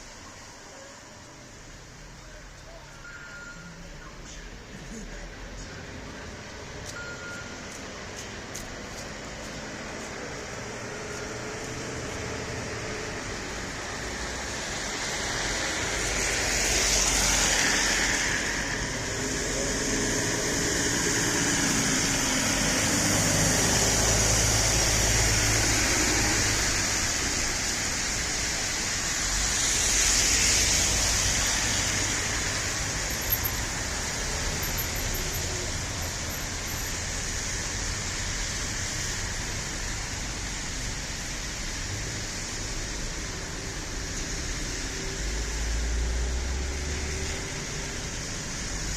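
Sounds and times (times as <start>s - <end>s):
tyre hiss and engine noise: 0.0s - 48.9s
vehicles passing: 0.0s - 48.9s.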